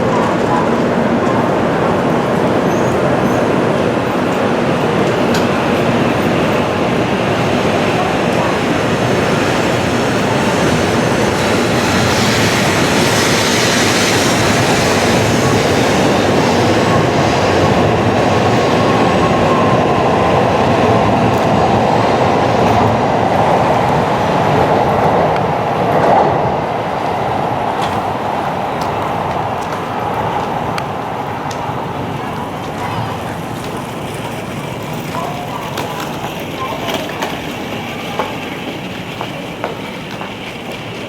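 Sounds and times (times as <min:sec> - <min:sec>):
train running: 0:00.0 - 0:41.0.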